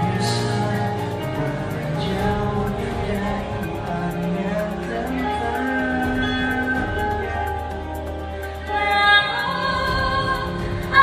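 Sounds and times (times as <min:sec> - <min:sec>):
slow song with held notes: 0:00.0 - 0:11.0.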